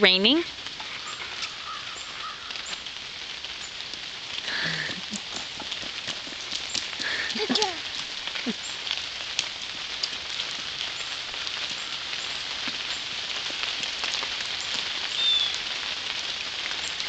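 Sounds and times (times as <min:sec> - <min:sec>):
rain on asphalt: 0:00.0 - 0:17.0.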